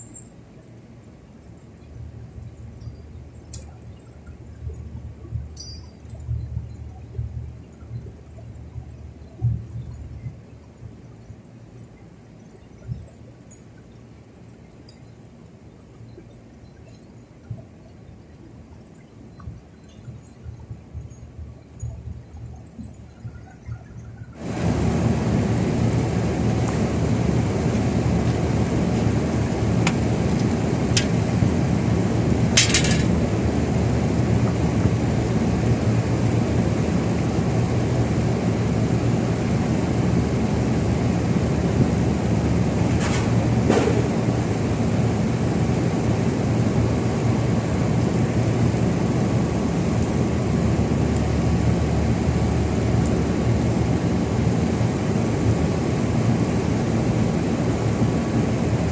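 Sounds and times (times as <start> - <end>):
engine running steadily: 0.0 - 12.2, 20.5 - 58.9.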